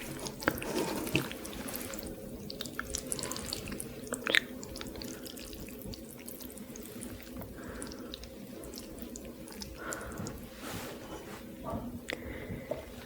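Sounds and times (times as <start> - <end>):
wet chewing and mouth clicks: 0.0 - 10.5.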